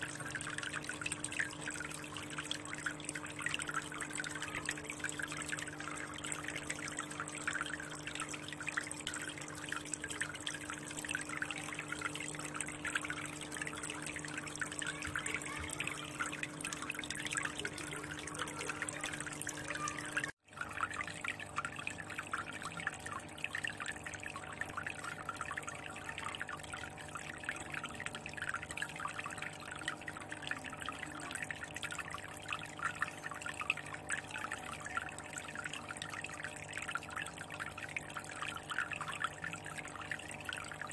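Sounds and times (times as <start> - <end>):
water trickling into aquarium: 0.0 - 40.9.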